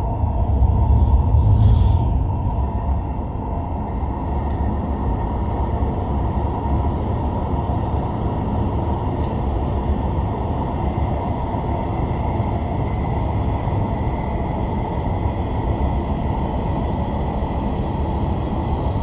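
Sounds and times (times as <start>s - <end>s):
train running low rumble: 0.0s - 19.0s.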